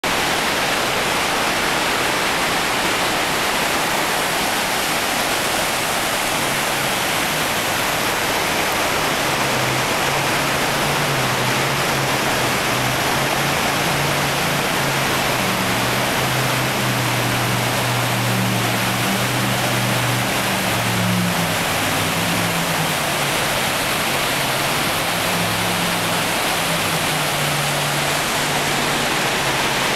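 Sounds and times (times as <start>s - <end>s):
churning river: 0.0s - 29.9s
waterfall roar: 0.0s - 29.9s
boat engine hum: 0.1s - 29.9s.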